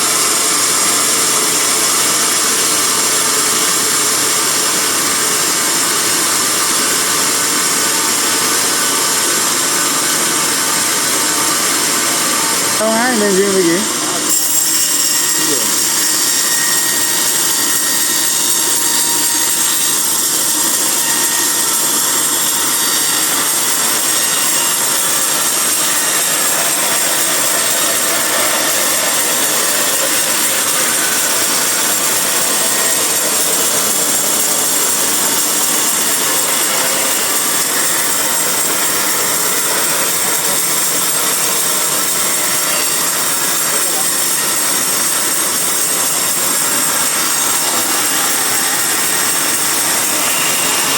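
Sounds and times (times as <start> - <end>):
bandsaw sawing log: 0.0 - 50.9.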